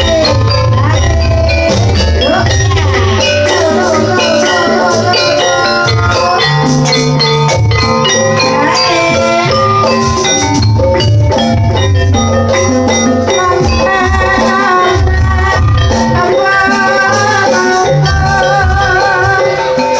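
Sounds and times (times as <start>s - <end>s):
tuned metal percussion: 0.0s - 19.9s.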